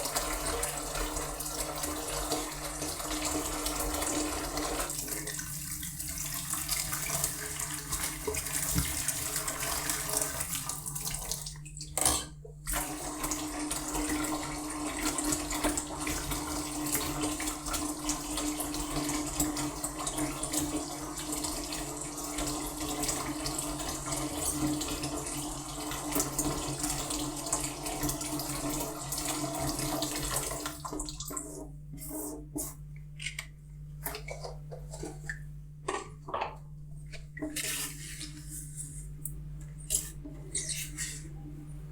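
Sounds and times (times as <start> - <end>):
tap water running into sink: 0.0 - 36.6.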